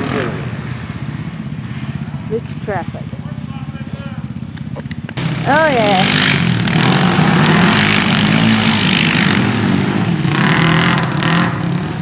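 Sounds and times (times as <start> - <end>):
small motor vehicle engine revving: 0.0 - 12.0.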